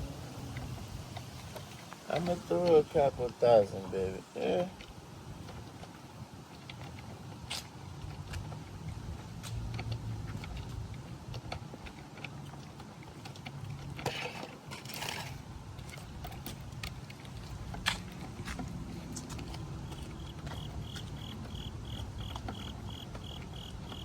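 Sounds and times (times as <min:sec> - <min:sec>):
rustle: 0:00.0 - 0:20.5.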